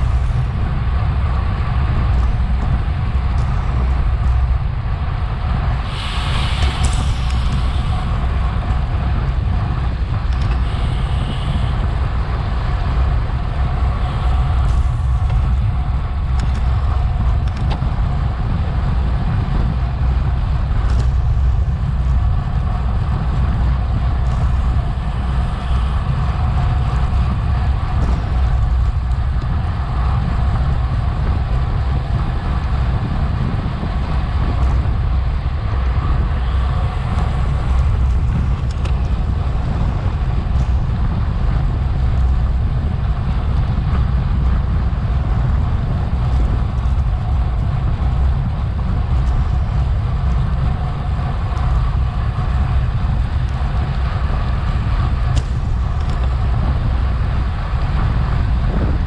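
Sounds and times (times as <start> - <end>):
bicycle tyre road noise: 0.0 - 59.0
wind rumbling on microphone: 0.0 - 59.0.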